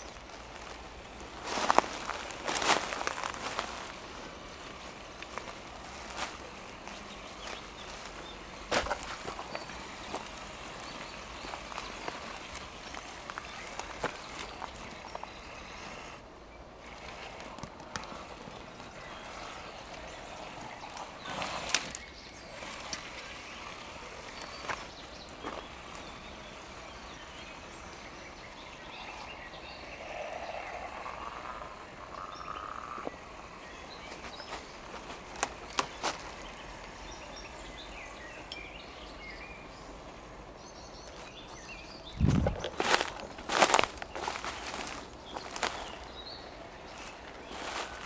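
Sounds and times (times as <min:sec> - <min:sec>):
faint motor whine: 0:00.0 - 0:48.0
woodland ambience: 0:00.0 - 0:48.0.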